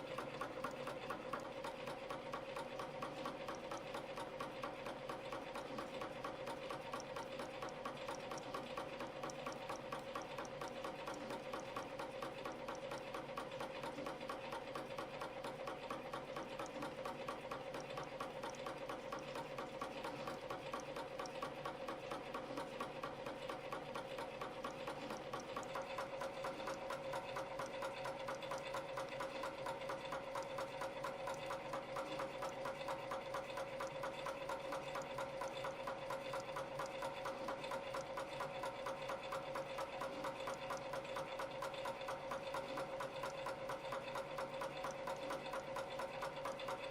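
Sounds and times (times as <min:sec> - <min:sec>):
machine clatter: 0:00.0 - 0:46.9.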